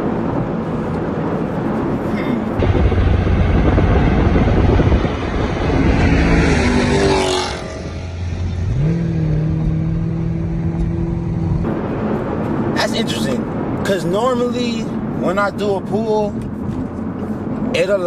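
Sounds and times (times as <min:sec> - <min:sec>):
car engine at full throttle: 0:00.0 - 0:18.0
car engine drone cruising: 0:00.0 - 0:18.0.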